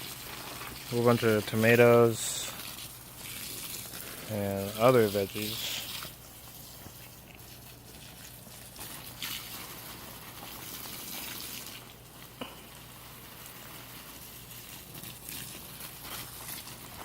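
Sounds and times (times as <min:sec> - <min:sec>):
faint trickling water: 0:00.0 - 0:17.0.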